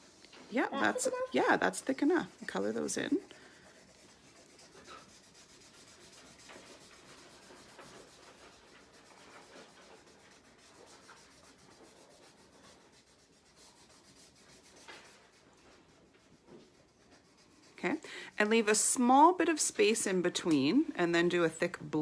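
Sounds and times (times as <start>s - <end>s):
marker scribbling on paper: 0.0s - 20.2s.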